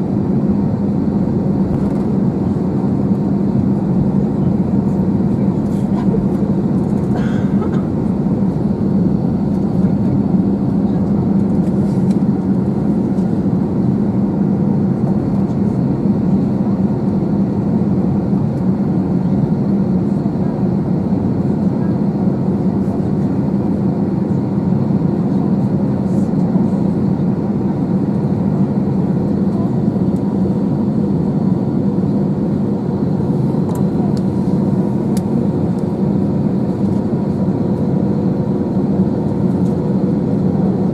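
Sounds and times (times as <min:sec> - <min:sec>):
aircraft cabin hum: 0:00.0 - 0:40.9.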